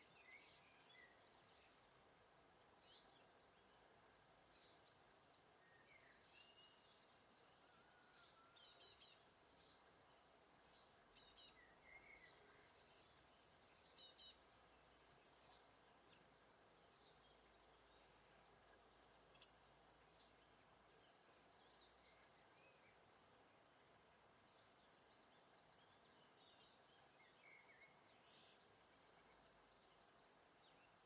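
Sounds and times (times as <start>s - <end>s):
songbirds calling: 0.0s - 31.0s.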